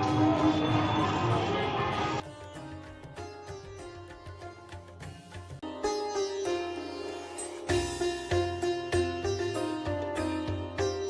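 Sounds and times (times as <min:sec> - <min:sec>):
string melody: 0:00.0 - 0:11.0.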